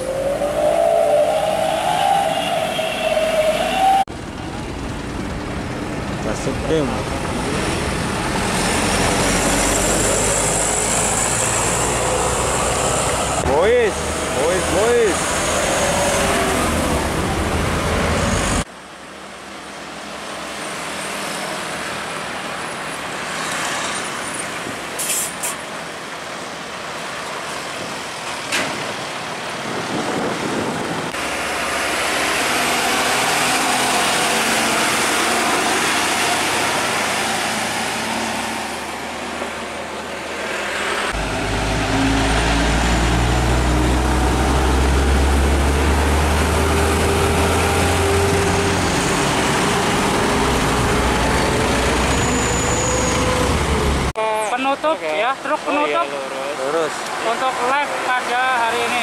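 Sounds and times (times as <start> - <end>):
trucks passing: 0.0 - 59.0.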